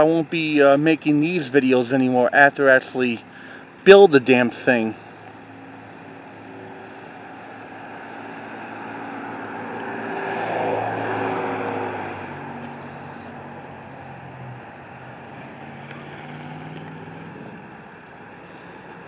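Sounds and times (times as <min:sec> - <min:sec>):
engine passing by: 0:02.9 - 0:19.0.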